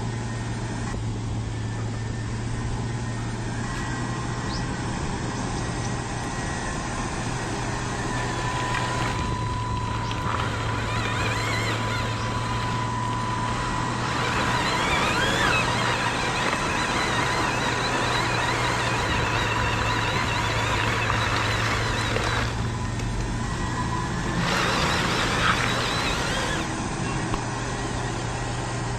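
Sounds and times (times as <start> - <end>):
model machine mechanical hum: 0.0 - 28.9
wavering motor and gear whines: 0.0 - 28.9.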